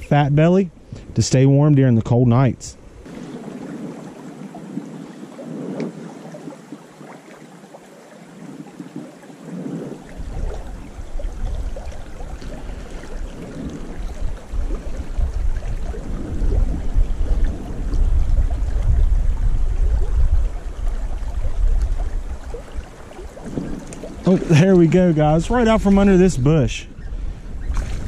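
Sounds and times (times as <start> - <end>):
small creek flowing: 0.0 - 26.8
wind buffeting microphone: 0.0 - 28.0.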